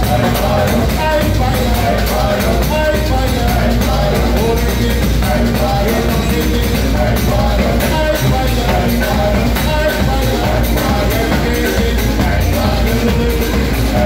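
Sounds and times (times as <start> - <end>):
bass drum beating: 0.0 - 14.0
electric bass: 0.0 - 14.0
man singing into microphone: 0.0 - 14.0
snare drum and cymbals: 0.0 - 14.0.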